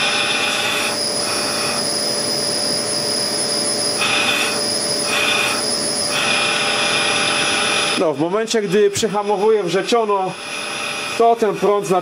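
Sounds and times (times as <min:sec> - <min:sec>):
spindle motor whine: 0:00.0 - 0:12.0.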